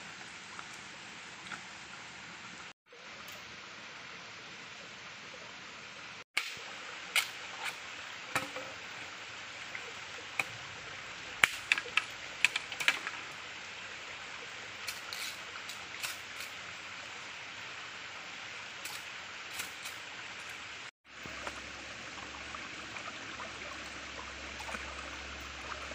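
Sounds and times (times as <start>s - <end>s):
stream water running: 0.0s - 25.9s.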